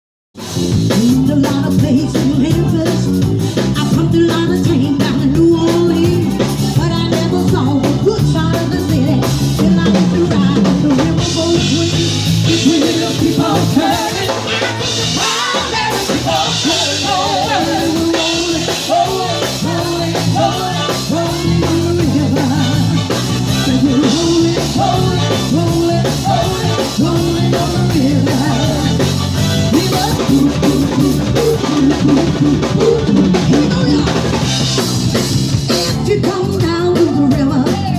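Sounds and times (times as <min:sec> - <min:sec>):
drums steady beat: 0:00.4 - 0:37.9
live rock band playing: 0:00.4 - 0:37.9
person singing: 0:00.9 - 0:34.5.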